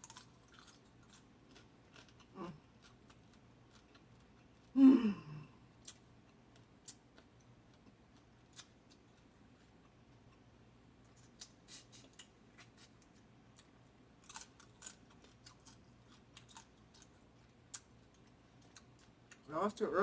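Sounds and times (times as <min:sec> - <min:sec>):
chewing crab: 0:00.0 - 0:04.8, 0:05.7 - 0:19.5.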